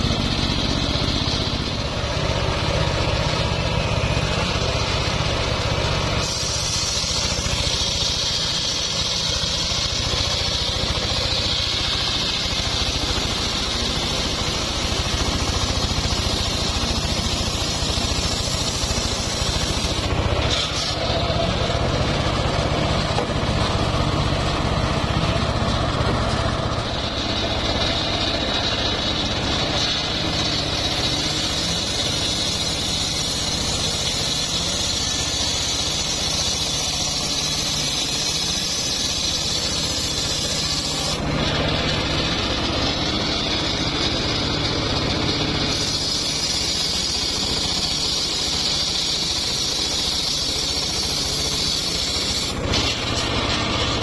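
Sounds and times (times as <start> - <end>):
steady engine drone: 0.0 - 54.0
circular saw blade ripping log: 3.0 - 24.0, 26.8 - 54.0.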